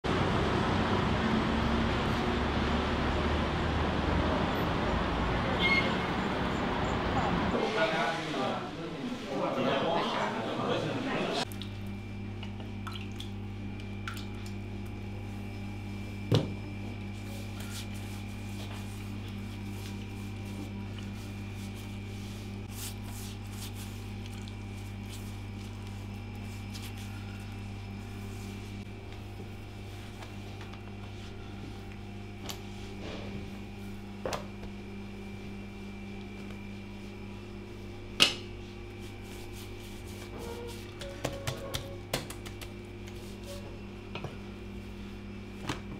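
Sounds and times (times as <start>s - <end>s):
low electrical hum: 0.8s - 45.9s.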